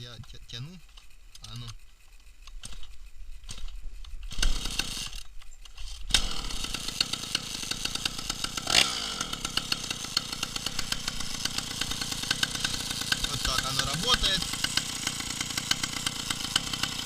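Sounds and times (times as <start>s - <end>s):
chainsaw engine starting and running: 0.0s - 17.0s.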